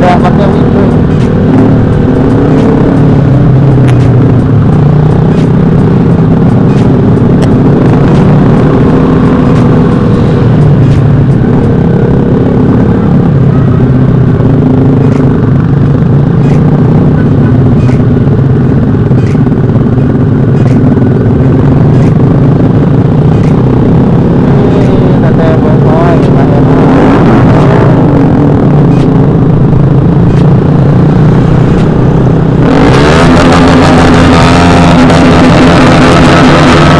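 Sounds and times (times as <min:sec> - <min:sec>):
loud motorcycle engine running: 0:00.0 - 0:36.9.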